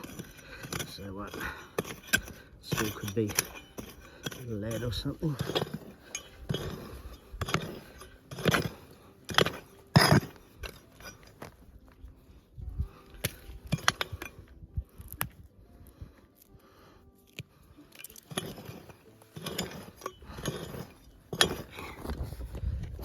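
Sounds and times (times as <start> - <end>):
pick striking gravelly ground: 0.0 - 16.6, 17.2 - 23.0
soil and stones scraping: 0.0 - 23.0.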